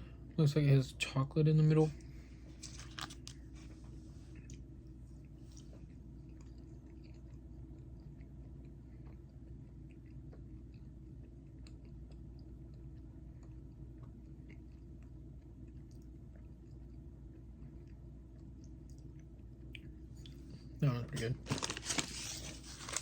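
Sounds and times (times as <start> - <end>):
steady low hum: 0.0 - 23.0
person chewing: 2.0 - 20.7.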